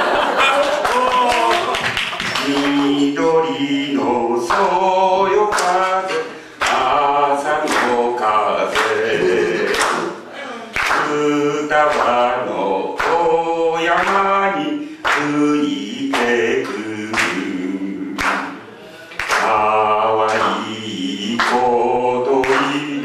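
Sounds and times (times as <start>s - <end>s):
men singing into microphones: 0.0s - 23.0s.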